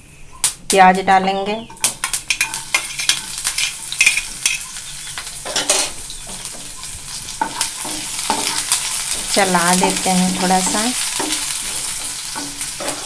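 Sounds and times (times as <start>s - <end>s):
onion sizzling in hot oil: 0.7s - 13.0s.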